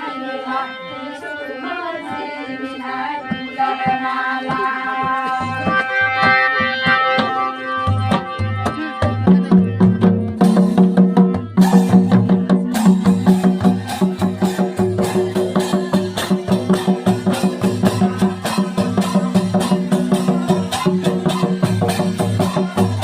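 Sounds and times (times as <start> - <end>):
hand drums beating: 3.2 - 23.0
sharp knocking percussion: 3.3 - 23.0.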